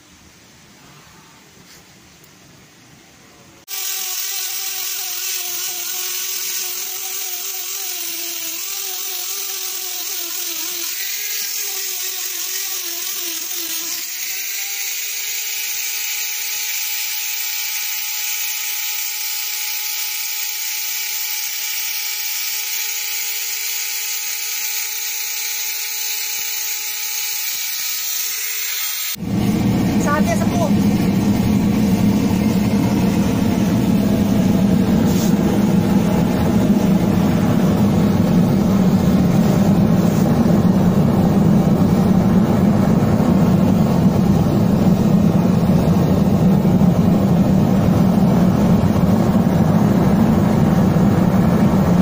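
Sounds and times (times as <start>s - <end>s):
electric power tool motor running: 3.7s - 51.7s.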